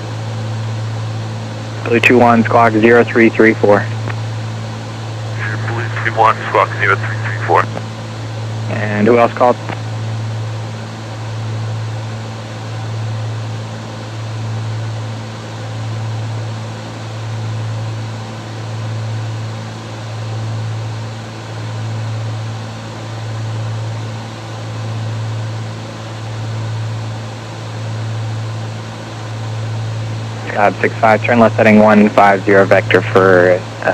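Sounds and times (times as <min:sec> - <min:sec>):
twin propeller engines droning: 0:00.0 - 0:33.9.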